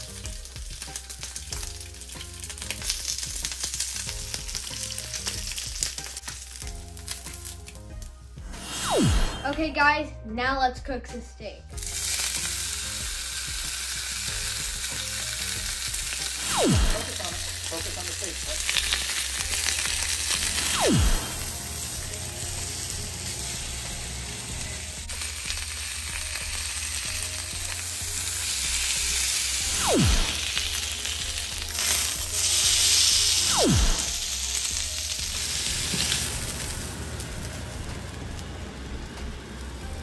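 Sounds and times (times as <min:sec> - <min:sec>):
steak sizzling in grill pan: 0:00.0 - 0:08.3, 0:11.8 - 0:20.8, 0:21.4 - 0:40.0.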